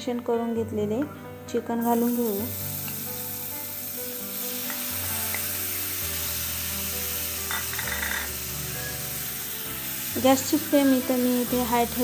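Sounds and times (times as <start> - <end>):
soft background music: 0.0 - 12.0
chicken sizzling in hot oil: 1.8 - 12.0.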